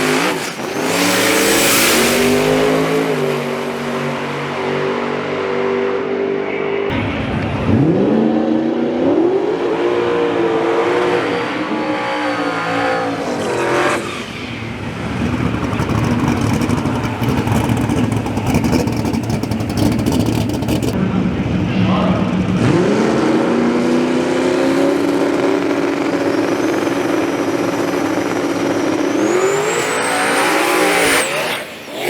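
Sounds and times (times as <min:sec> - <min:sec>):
drag racing car engine revving: 0:00.0 - 0:21.6, 0:22.2 - 0:32.0.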